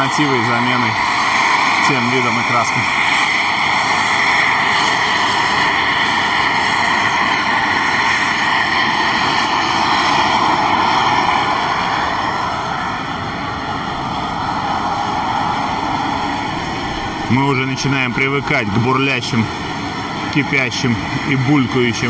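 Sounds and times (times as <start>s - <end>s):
steam hissing from vents: 0.0s - 22.0s.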